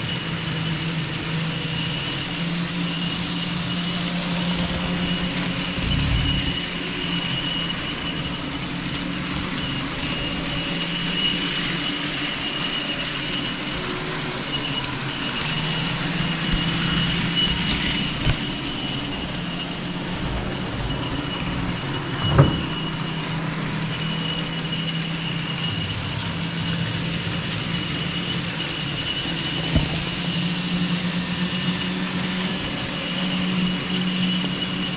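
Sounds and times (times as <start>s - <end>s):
model train motor whine: 0.0s - 34.9s
wheels rolling on track: 0.0s - 34.9s.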